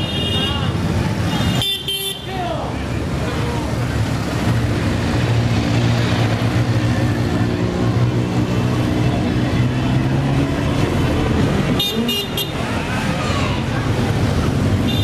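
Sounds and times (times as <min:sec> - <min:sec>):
motorcycle engines running: 0:02.3 - 0:15.0.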